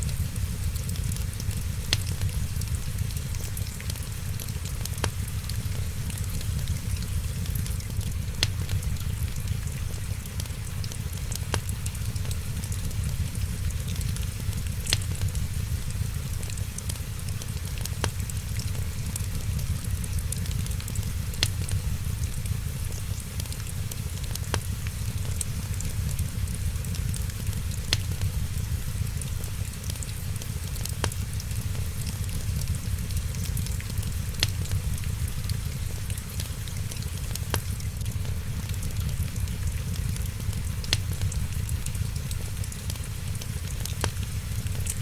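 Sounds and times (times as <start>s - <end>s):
rain hiss: 0.0s - 45.0s
wood fire crackling and popping: 0.0s - 45.0s.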